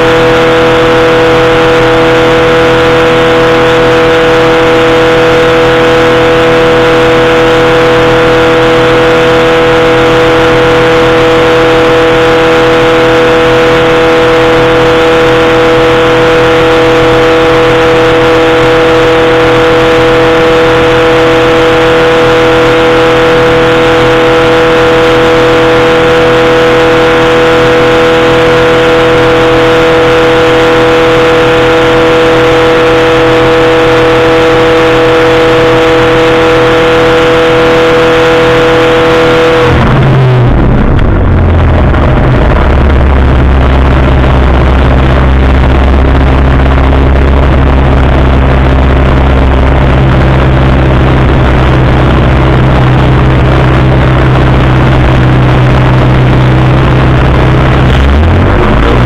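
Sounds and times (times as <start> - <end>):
engine and propeller droning: 0.0 - 59.0.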